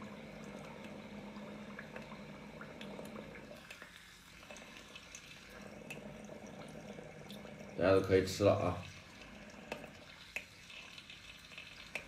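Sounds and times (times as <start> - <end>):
liquid bubbling in a glass: 0.0 - 12.0
low steady hum: 0.0 - 12.0.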